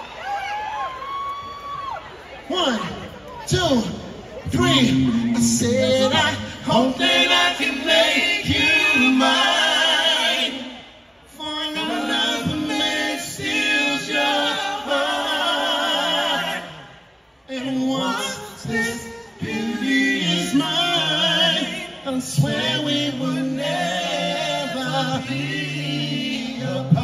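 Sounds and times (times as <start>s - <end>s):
people singing in harmony: 5.4s - 27.0s.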